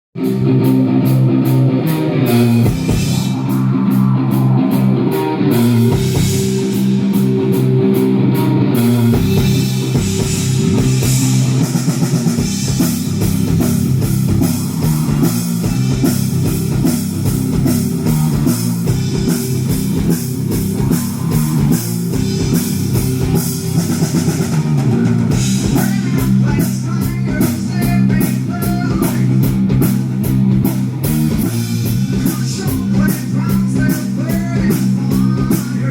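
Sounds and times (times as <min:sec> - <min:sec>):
rock band playing live: 0:00.2 - 0:35.9.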